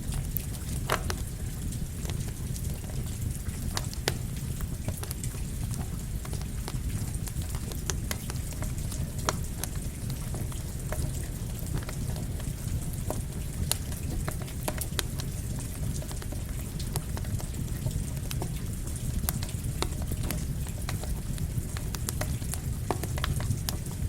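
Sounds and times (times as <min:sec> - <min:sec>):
campfire crackling and popping: 0:00.0 - 0:24.0
rain pattering: 0:00.0 - 0:24.0.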